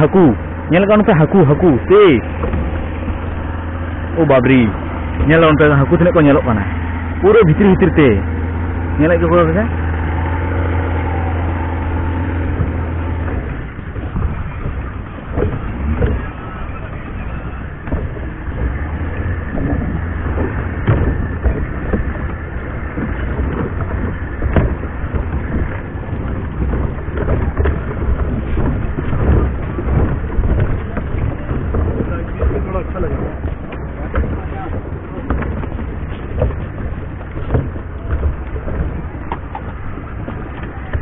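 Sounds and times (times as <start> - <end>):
boat engine humming: 0.0 - 41.0
footsteps on plastic pontoon: 0.0 - 41.0
wind noise on microphone: 0.0 - 41.0.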